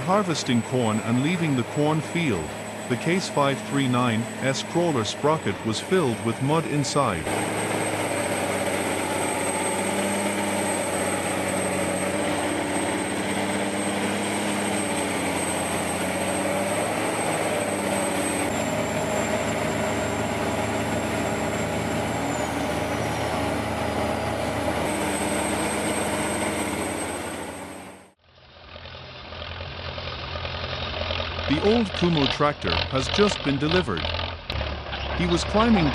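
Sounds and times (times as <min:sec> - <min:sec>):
heavy machine engine running: 0:00.0 - 0:35.9
quieter engine sound: 0:00.0 - 0:35.9.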